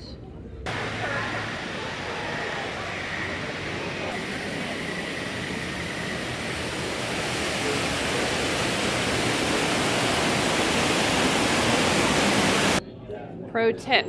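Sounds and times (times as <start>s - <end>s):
waterfall splashing: 0.7s - 12.8s.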